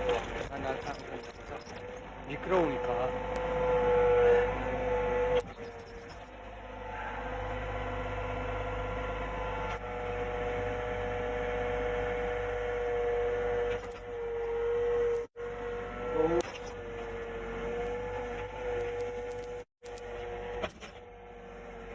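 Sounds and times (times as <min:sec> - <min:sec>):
snow-clearing machine engine whining: 0:00.0 - 0:21.9.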